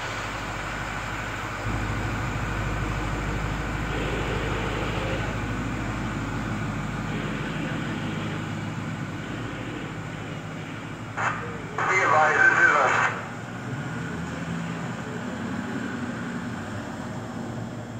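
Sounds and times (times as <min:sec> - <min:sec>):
vehicle engine idling: 0:00.0 - 0:17.9.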